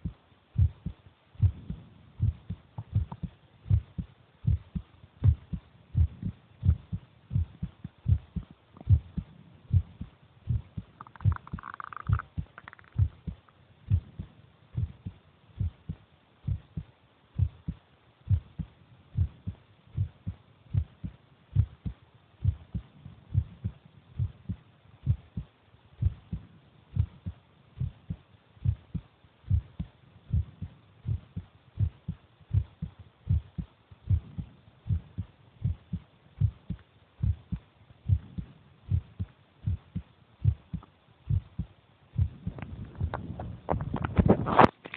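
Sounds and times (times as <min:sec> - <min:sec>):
heartbeat thumps: 0:00.0 - 0:44.7.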